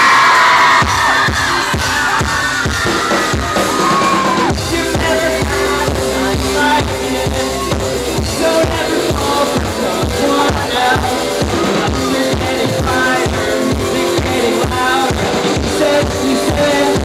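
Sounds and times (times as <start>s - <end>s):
bass guitar: 0.0s - 17.0s
drum-kit beat: 0.0s - 17.0s
fans screaming: 0.0s - 17.0s.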